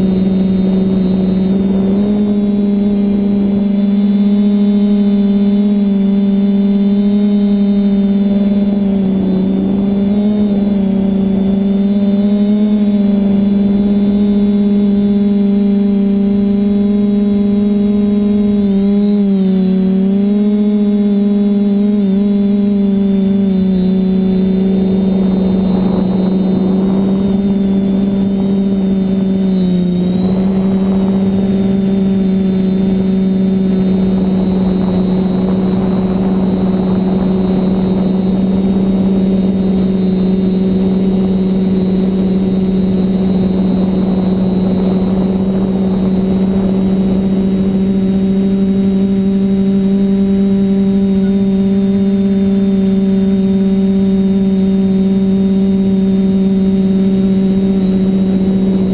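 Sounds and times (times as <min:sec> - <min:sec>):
high electronic whine: 0:00.0 - 0:58.9
quadcopter motors humming: 0:00.0 - 0:58.9.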